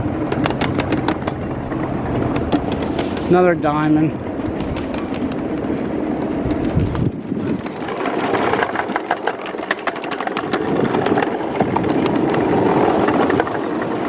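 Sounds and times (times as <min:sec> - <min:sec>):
railway car rumbling on rails: 0:00.0 - 0:14.0
wheels clacking over crossing: 0:00.0 - 0:14.0.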